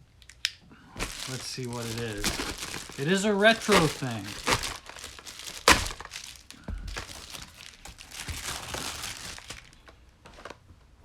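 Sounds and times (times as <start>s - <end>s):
packaging rustling and crinkling: 1.0s - 10.6s.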